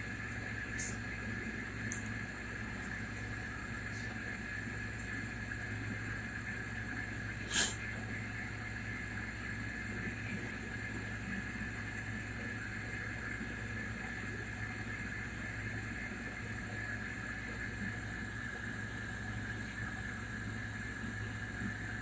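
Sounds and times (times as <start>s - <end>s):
machine hum with high whine: 0.0s - 22.0s.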